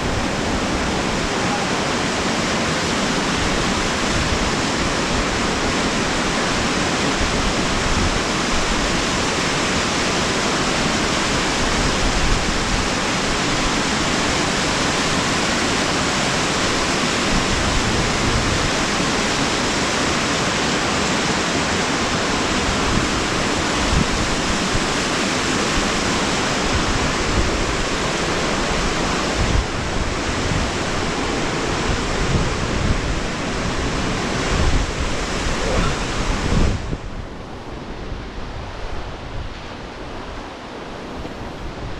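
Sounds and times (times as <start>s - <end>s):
wind buffeting microphone: 0.0s - 9.6s, 10.2s - 20.7s, 21.9s - 41.9s
waterfall rushing over rocks: 0.0s - 41.9s.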